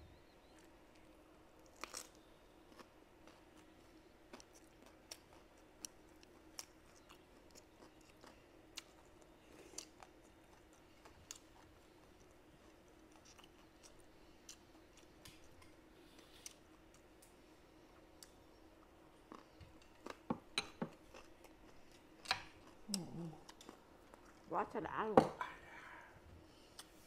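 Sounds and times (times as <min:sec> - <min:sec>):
faint steady hum: 0:00.0 - 0:27.0
chewing: 0:00.5 - 0:24.5.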